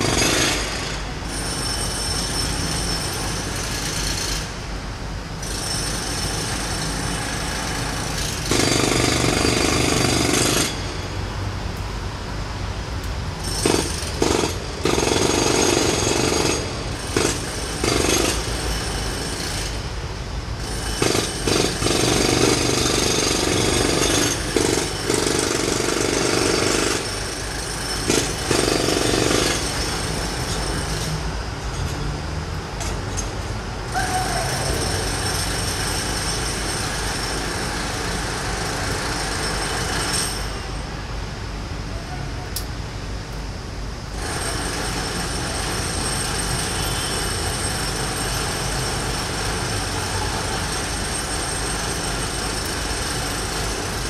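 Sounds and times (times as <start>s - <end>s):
jackhammers hammering: 0.0s - 4.6s, 5.4s - 11.1s, 13.4s - 19.8s, 20.6s - 40.8s, 44.2s - 54.0s.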